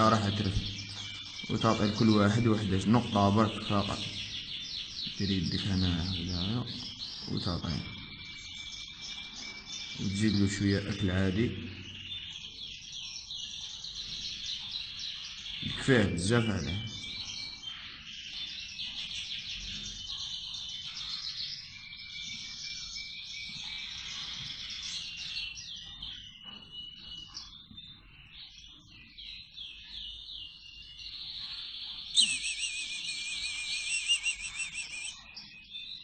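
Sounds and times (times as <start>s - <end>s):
bird chicks chirping: 0.0s - 36.0s.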